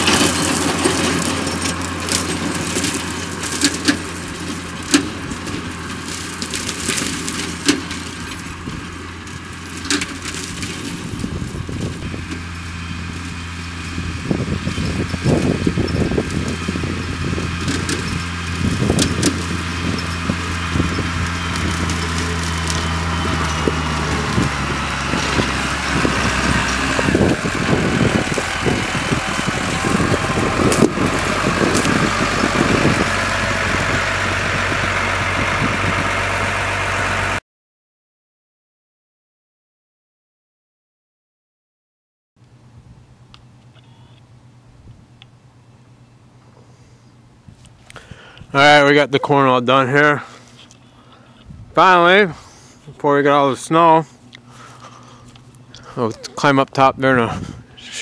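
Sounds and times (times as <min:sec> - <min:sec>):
chopper shredding stalks: 0:00.0 - 0:37.4, 0:46.5 - 0:58.0
tractor engine running: 0:00.0 - 0:37.4, 0:42.4 - 0:58.0.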